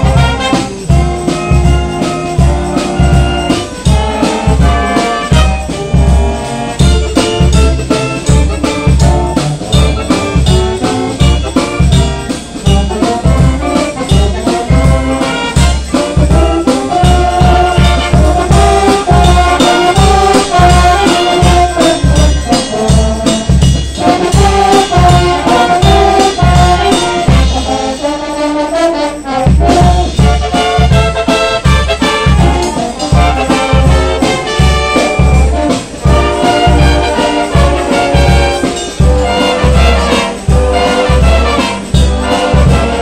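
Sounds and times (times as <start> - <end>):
wind band playing: 0.0 - 43.0.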